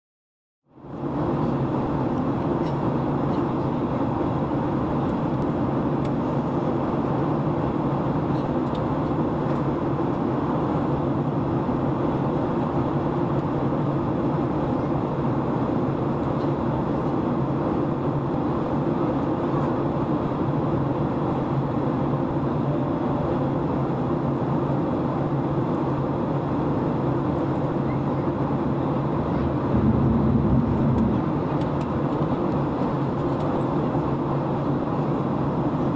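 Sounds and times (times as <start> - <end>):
airliner cabin engine rumble: 0.8 - 35.9.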